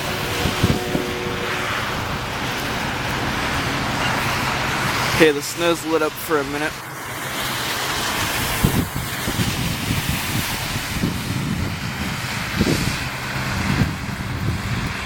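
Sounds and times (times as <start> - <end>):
wind buffeting microphone: 0.0 - 5.2, 6.6 - 15.0
freight train passing: 0.0 - 15.0.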